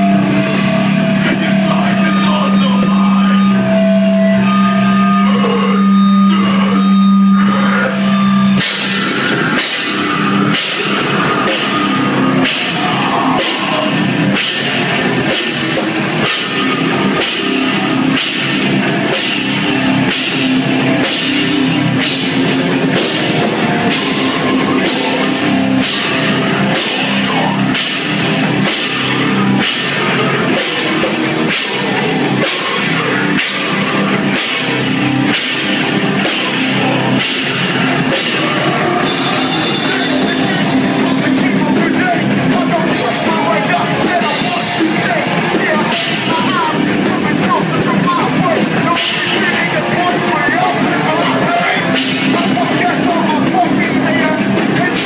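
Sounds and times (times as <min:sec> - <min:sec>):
heavy drum beat: 0:00.0 - 0:07.0, 0:08.0 - 0:55.0
distorted guitar: 0:00.0 - 0:55.0.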